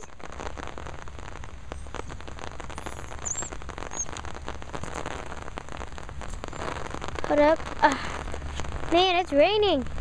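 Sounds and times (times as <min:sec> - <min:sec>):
rain tapping on an umbrella: 0:00.0 - 0:10.0.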